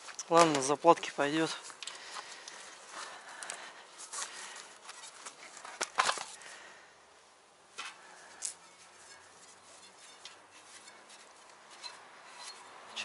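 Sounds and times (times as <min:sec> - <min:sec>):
rubber tyre rustling and scraping: 0:00.0 - 0:06.6, 0:07.7 - 0:13.0.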